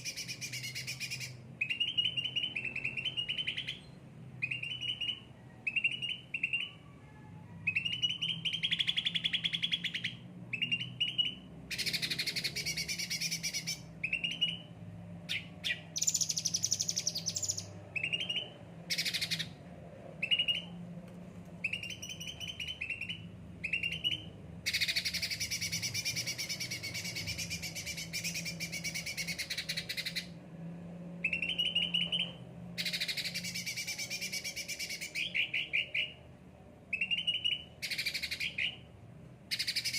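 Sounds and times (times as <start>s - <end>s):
songbird chirping and trilling: 0.0s - 20.9s, 21.6s - 39.9s.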